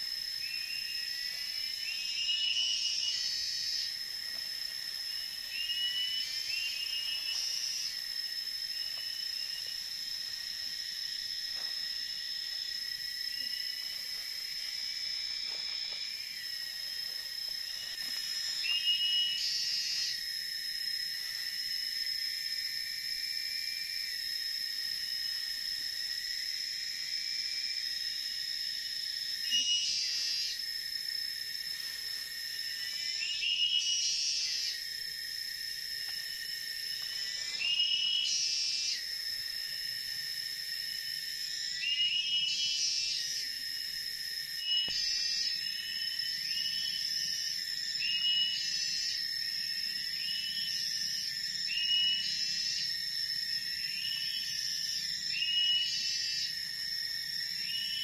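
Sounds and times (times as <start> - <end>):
insects whining: 0.0 - 58.0.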